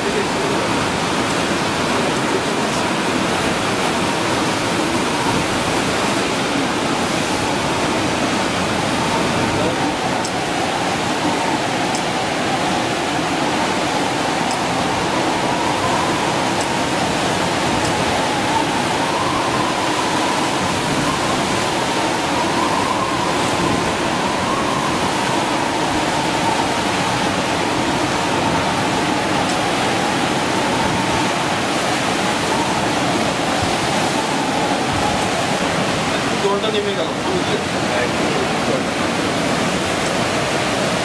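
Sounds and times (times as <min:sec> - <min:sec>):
sea surf: 0:00.0 - 0:41.0
strong wind: 0:00.0 - 0:41.0.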